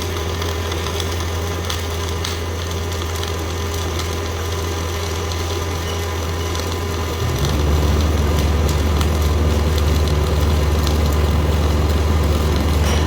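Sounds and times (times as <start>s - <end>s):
faint crackle: 0.0s - 13.0s
low machine hum: 0.0s - 13.0s.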